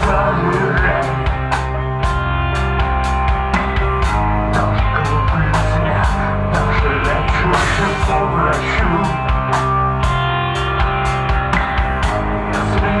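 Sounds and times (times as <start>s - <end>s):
drum kit beat: 0.0s - 13.0s
electric guitars: 0.0s - 13.0s.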